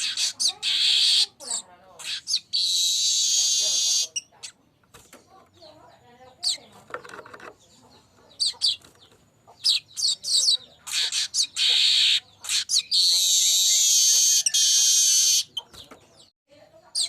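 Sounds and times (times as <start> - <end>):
bird singing chirps and trills: 0.0 - 16.3.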